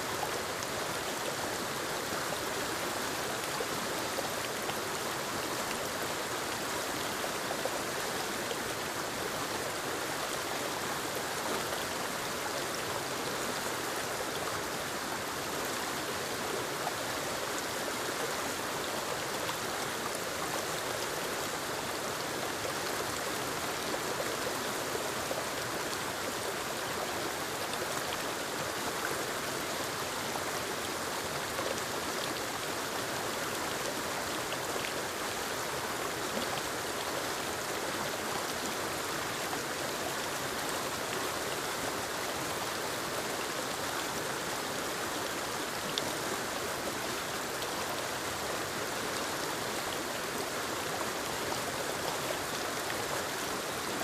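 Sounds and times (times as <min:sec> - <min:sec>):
waterfall over rocks: 0:00.0 - 0:54.0.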